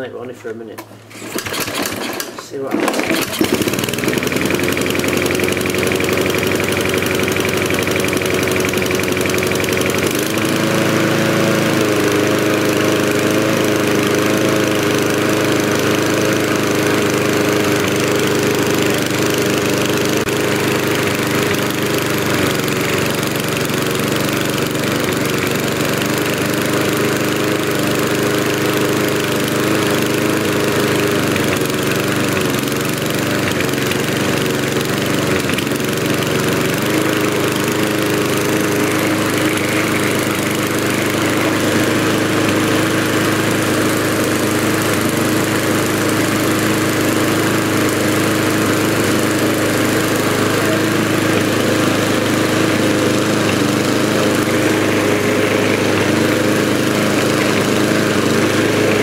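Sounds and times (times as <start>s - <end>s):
lawnmower engine running: 0.8s - 59.0s.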